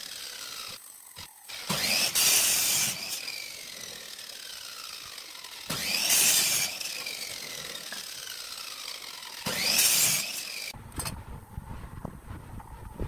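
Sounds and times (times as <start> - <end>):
miter saw cutting wood: 0.0 - 11.2.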